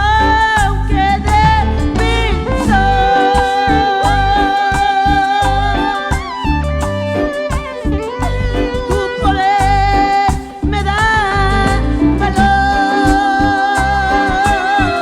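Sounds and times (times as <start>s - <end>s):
woman singing with vibrato: 0.0s - 7.3s, 8.4s - 15.0s
band with bass and beat: 0.0s - 15.0s.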